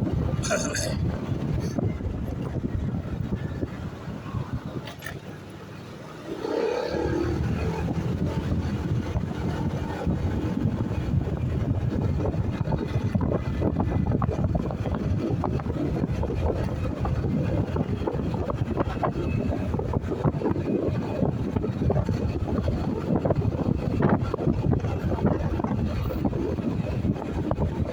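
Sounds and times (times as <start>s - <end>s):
wind buffeting microphone: 0.0s - 27.9s
motorcycle running: 1.1s - 27.9s.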